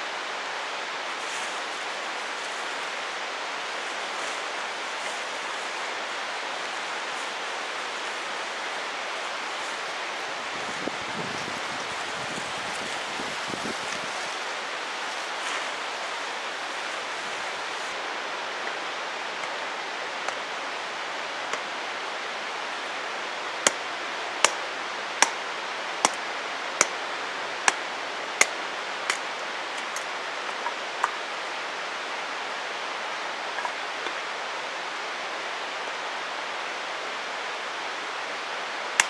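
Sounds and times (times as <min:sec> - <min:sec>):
mountain stream rushing: 0:00.0 - 0:39.0.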